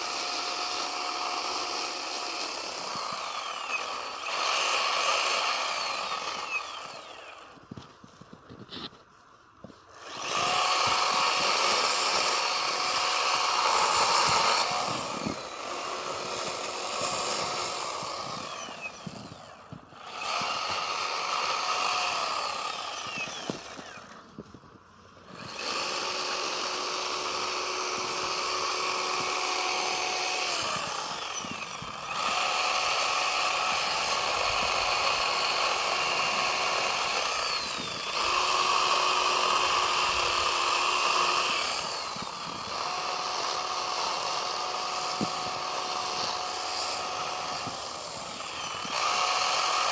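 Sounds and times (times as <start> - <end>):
chainsaw cutting snow: 0.0 - 49.9.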